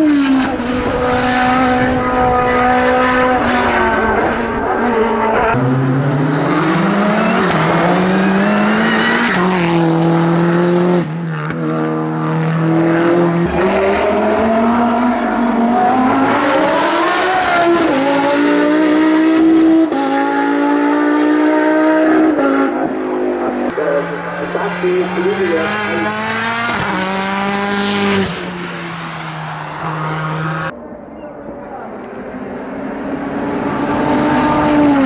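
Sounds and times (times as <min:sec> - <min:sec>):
race car engine revving through gears: 0:00.0 - 0:35.0.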